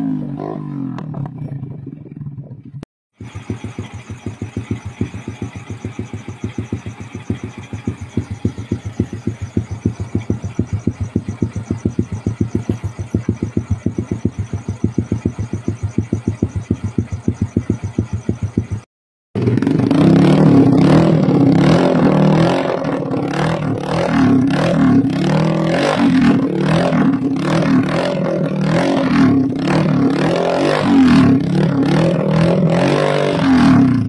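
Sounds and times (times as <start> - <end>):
motorcycle engine idling: 0.9 - 34.0.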